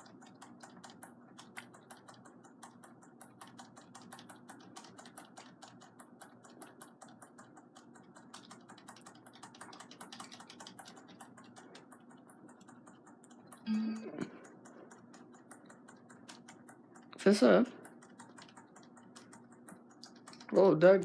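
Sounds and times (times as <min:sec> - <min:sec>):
keyboard keys tapping: 0:00.0 - 0:21.0.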